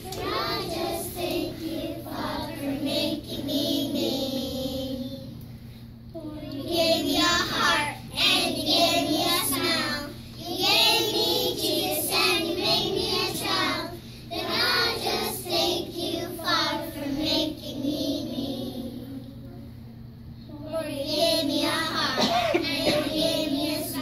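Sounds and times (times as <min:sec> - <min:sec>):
children singing together: 0:00.0 - 0:05.3, 0:06.5 - 0:19.3, 0:20.9 - 0:24.0.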